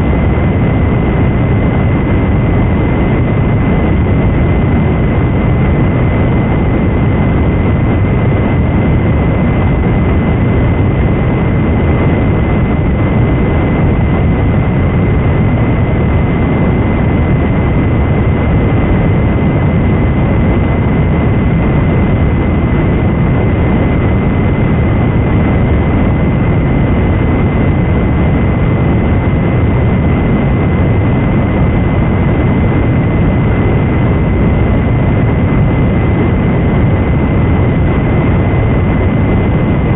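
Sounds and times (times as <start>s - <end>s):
loud static noise: 0.0s - 39.9s.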